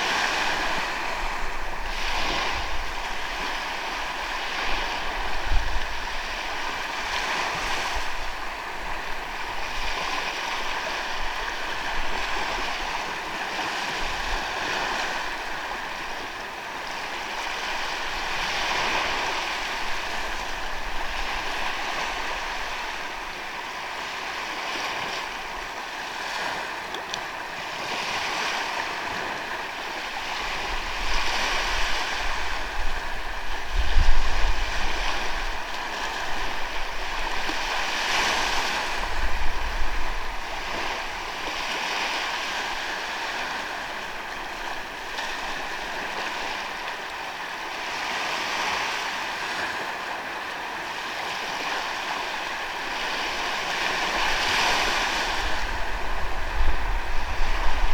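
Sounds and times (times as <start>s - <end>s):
sea waves breaking on a beach: 0.0s - 57.9s.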